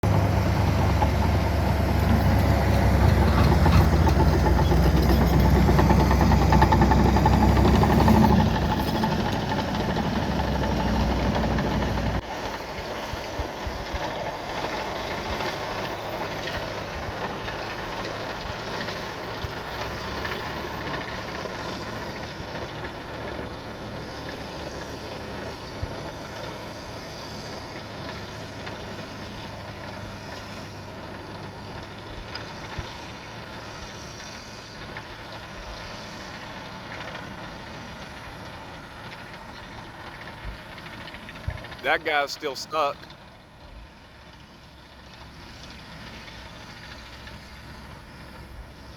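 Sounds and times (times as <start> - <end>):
dump truck diesel engine: 0.0 - 43.1.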